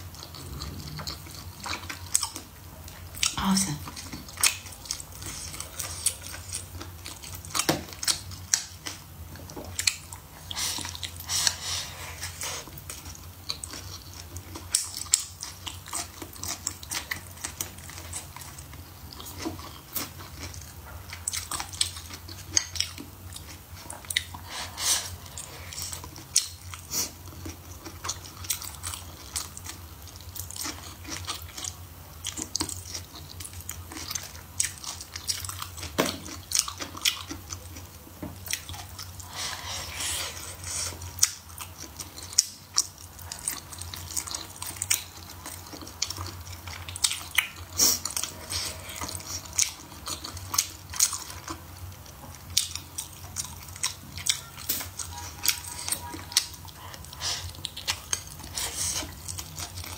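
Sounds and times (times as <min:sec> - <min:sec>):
person chewing with lip smacks: 0:00.1 - 0:59.9.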